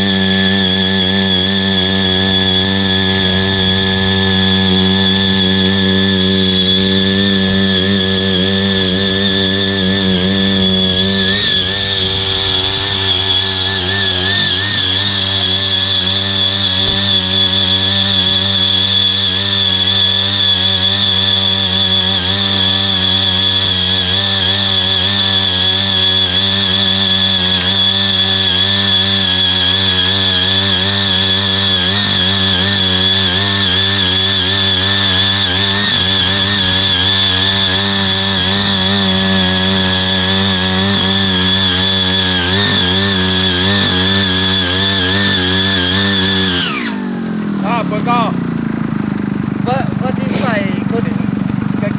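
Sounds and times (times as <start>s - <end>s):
small tiller engine running: 0.0s - 51.9s.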